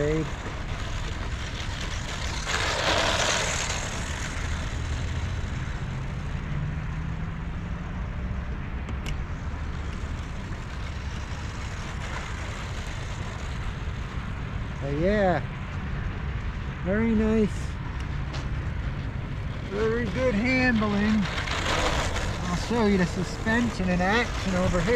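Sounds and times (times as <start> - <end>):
wind rumbling on microphone: 0.0 - 24.9.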